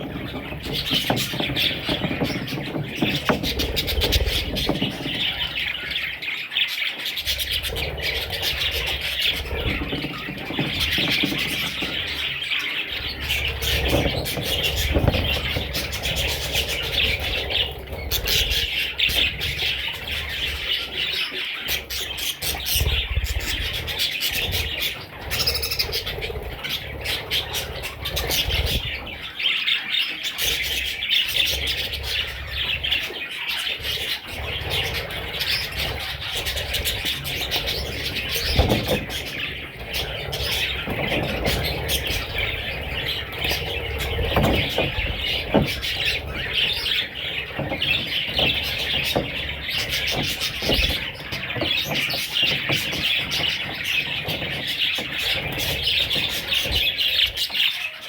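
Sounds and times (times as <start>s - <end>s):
budgerigars chattering and warbling: 0.0s - 58.0s.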